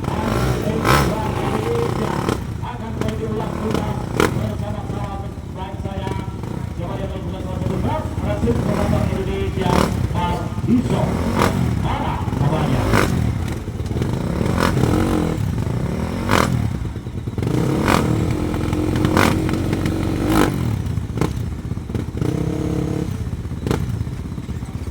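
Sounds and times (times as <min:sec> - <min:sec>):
motorcycle engines revving: 0:00.0 - 0:24.9.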